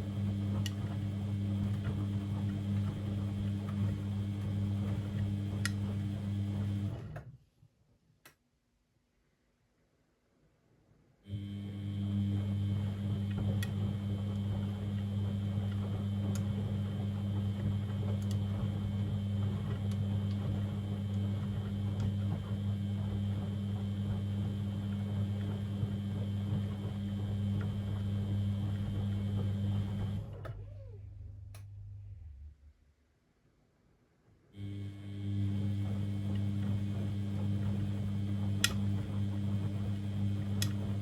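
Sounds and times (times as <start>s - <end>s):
washing machine humming: 0.0s - 7.3s, 11.3s - 32.4s, 34.6s - 41.0s.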